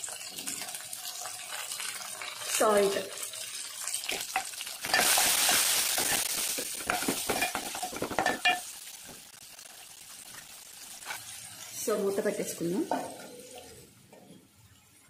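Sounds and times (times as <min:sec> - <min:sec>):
vegetables frying in hot oil: 0:00.0 - 0:15.0.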